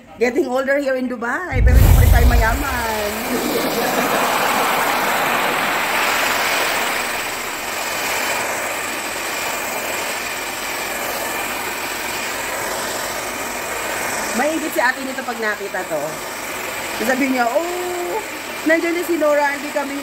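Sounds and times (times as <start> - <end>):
hair dryer blowing: 1.9 - 20.0.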